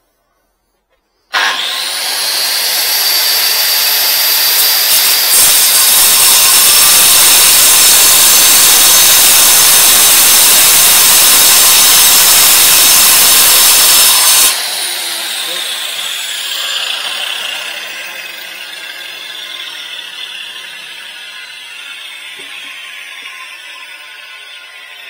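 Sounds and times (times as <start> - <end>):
grinder cutting concrete: 1.3 - 25.0
angle grinder motor whine: 1.4 - 25.0.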